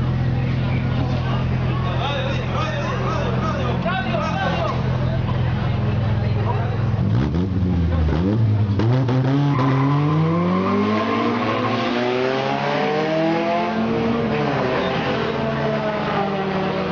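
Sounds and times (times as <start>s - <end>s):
race car engine accelerating: 0.0s - 16.9s.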